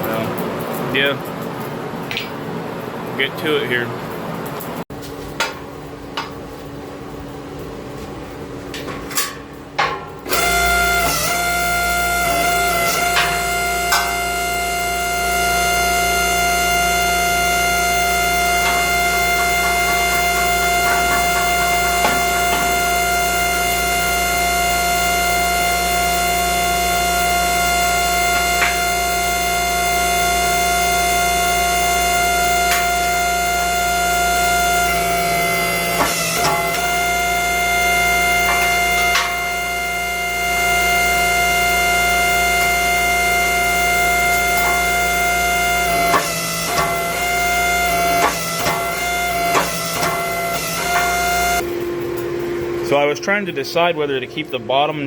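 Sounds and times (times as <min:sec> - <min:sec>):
hydraulic pump motor whining drone: 0:10.2 - 0:55.0.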